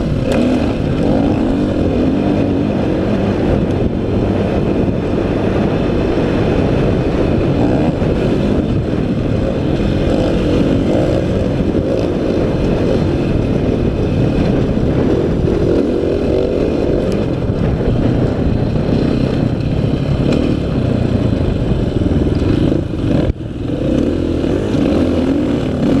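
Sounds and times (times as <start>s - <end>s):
dirt bike engine under throttle: 0.0s - 26.0s
wind rush on microphone: 0.0s - 26.0s.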